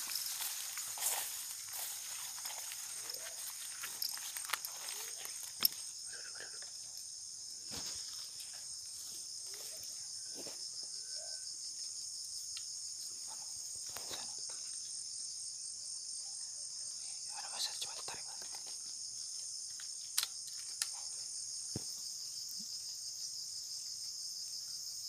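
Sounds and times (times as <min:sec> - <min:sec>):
insect chorus shrill buzz: 0:00.0 - 0:25.0.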